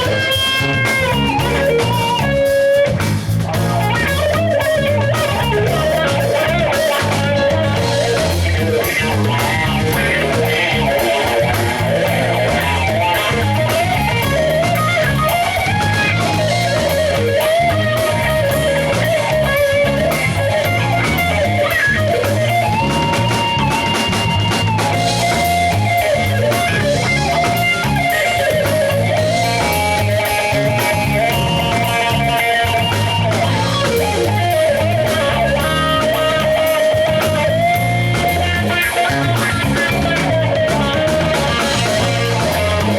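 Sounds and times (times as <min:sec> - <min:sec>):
bass guitar: 0:00.0 - 0:42.9
drum kit: 0:00.0 - 0:42.9
electric lead guitar solo: 0:00.0 - 0:42.9.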